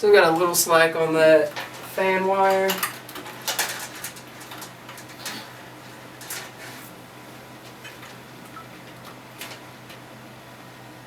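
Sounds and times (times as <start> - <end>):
fan cables clicking and rustling: 0.0 - 10.3.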